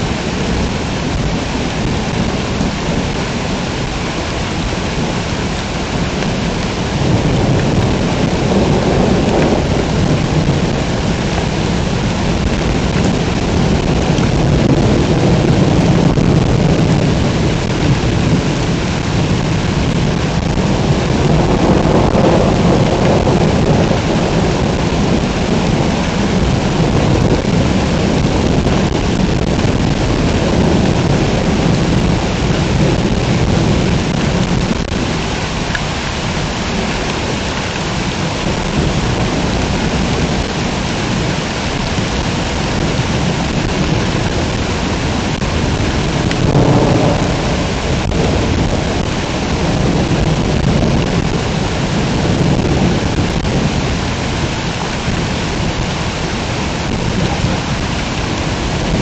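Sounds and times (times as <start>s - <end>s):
heavy rain pouring: 0.0s - 59.0s
low rolling thunder: 0.0s - 59.0s.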